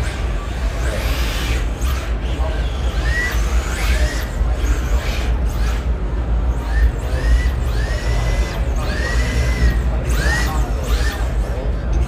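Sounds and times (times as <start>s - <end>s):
electric toy car motors whining: 0.0s - 11.8s.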